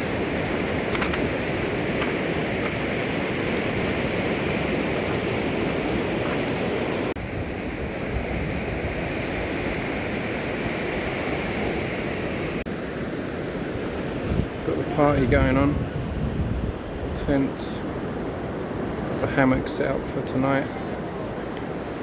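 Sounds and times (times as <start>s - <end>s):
ocean surf: 0.0s - 22.0s
wind: 0.0s - 22.0s.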